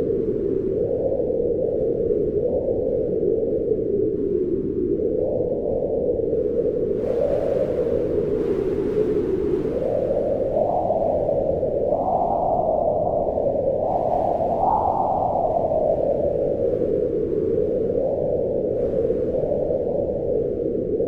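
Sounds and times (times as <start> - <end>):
wind blowing in gusts: 0.0 - 21.0.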